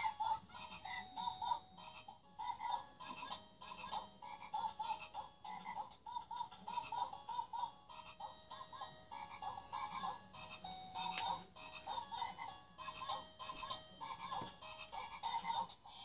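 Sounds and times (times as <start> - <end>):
baby toy melody through small speaker: 0.0 - 16.0.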